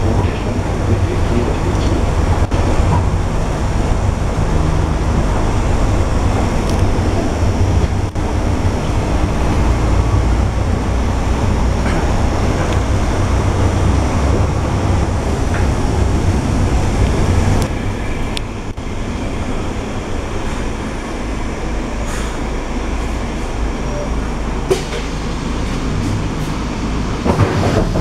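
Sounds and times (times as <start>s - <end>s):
bus engine low rumble: 0.0s - 28.0s.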